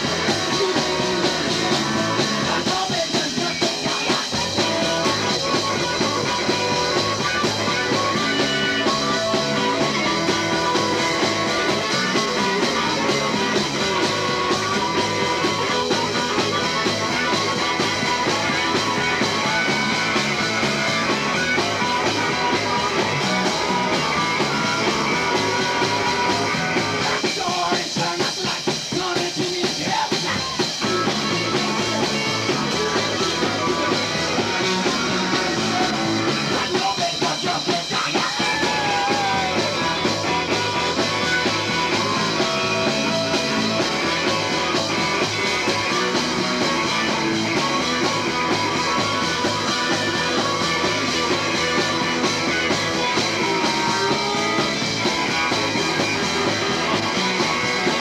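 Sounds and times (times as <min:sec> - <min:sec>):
electric guitar: 0:00.0 - 0:58.0
live rock band playing: 0:00.0 - 0:58.0
person singing: 0:00.0 - 0:58.0.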